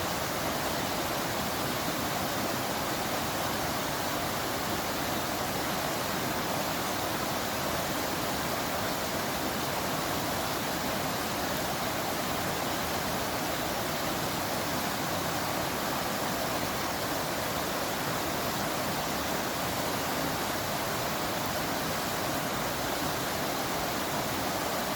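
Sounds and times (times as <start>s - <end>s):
waterfall: 0.0s - 24.9s.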